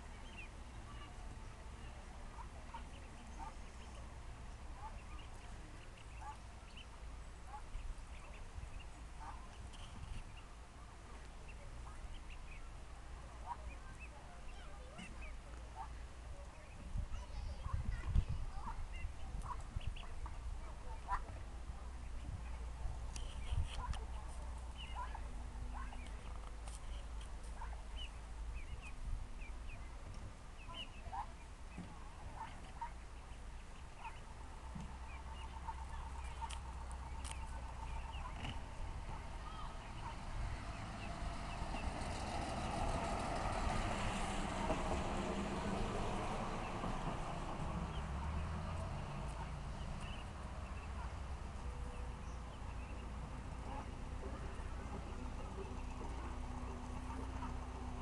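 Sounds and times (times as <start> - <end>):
ducklings chirping: 0.0 - 43.5, 47.5 - 58.0.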